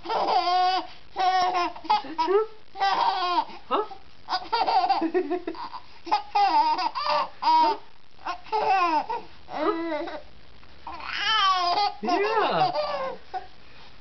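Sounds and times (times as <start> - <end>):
baby laughing: 0.0 - 3.5, 4.3 - 10.1, 10.9 - 13.2.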